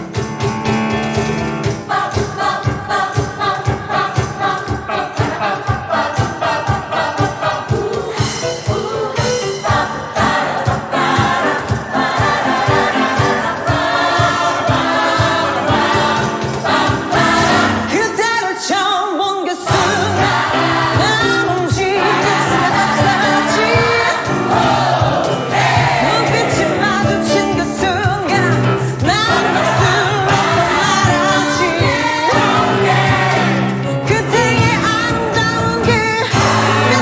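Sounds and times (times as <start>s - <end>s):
steady beat: 0.0s - 18.0s, 19.7s - 37.0s
gospel choir singing: 0.0s - 37.0s.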